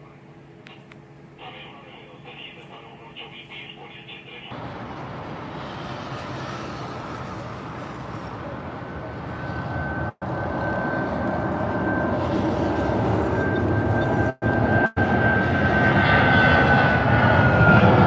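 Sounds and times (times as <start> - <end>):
jet engines roaring: 0.4 - 18.0.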